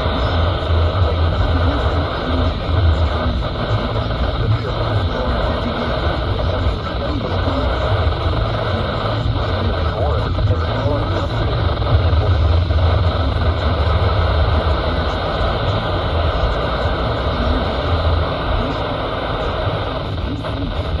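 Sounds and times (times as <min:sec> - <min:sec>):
faint voice: 0:00.0 - 0:21.0
low hum: 0:00.0 - 0:21.0
radio static hiss: 0:00.0 - 0:21.0.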